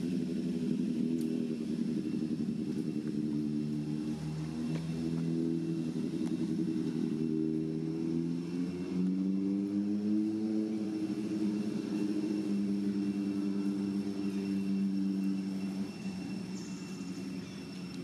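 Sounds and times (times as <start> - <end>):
faint high steady whine: 0.0 - 18.0
motor engine running at low revs: 0.0 - 18.0.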